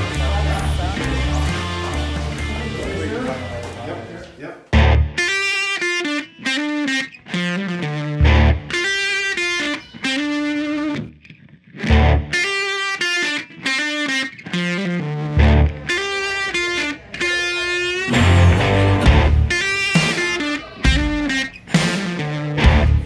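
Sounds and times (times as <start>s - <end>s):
distorted electric guitar: 0.0s - 3.5s, 4.7s - 23.0s.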